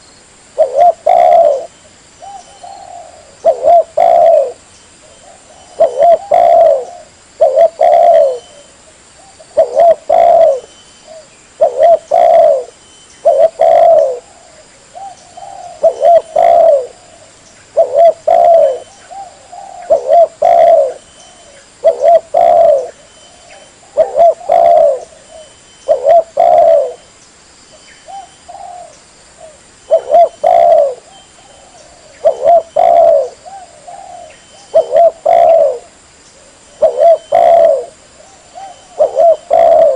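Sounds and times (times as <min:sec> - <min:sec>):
dove cooing: 0:00.6 - 0:27.0, 0:28.0 - 0:39.9.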